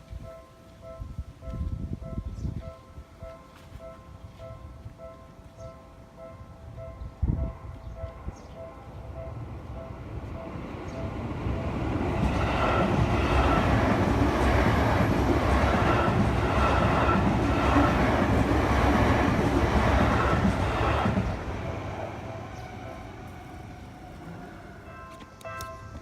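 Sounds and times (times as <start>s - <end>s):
level crossing warning bell: 0.0s - 26.0s
electric train passing: 4.5s - 26.0s.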